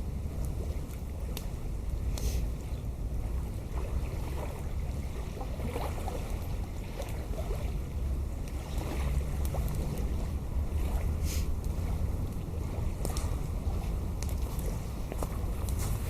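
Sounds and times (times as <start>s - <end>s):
campfire crackling: 0.0s - 4.2s, 6.3s - 16.0s
wind buffeting microphone: 0.0s - 16.0s.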